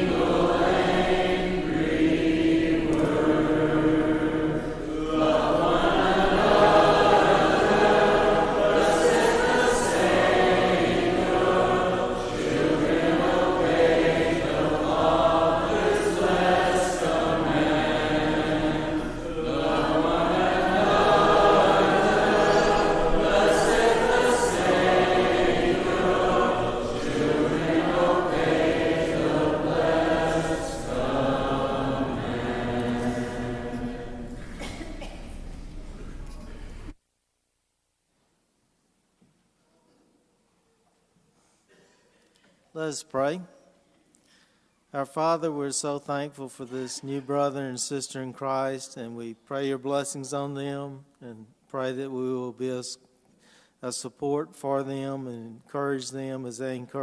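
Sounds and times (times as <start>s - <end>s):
congregation singing a hymn: 0.0s - 36.9s, 45.0s - 51.1s, 53.8s - 57.0s.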